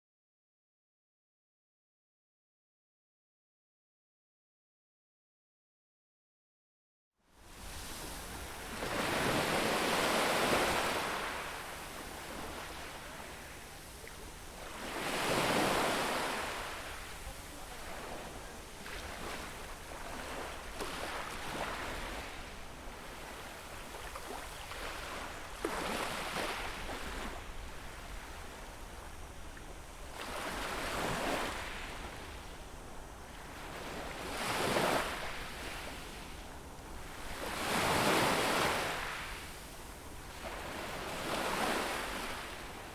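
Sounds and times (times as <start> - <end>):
waves breaking on shore: 7.5 - 42.9.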